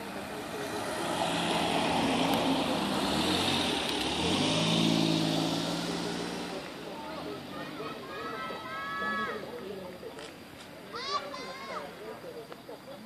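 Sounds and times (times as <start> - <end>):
low engine hum: 0.0 - 10.6
tyre and road noise: 0.0 - 13.0.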